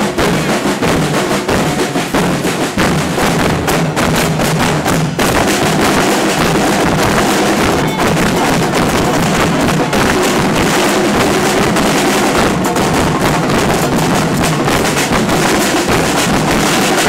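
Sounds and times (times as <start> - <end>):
bass drums in driving rhythm: 0.0 - 17.0.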